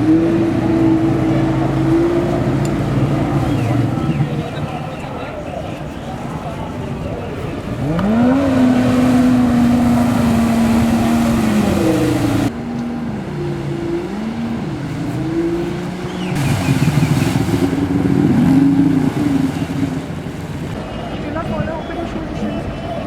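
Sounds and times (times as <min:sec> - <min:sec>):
jet ski engine revving: 0:00.0 - 0:23.0.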